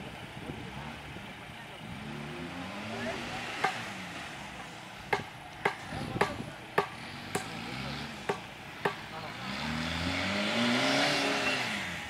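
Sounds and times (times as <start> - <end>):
faint jeep engine running: 0.0 - 12.0.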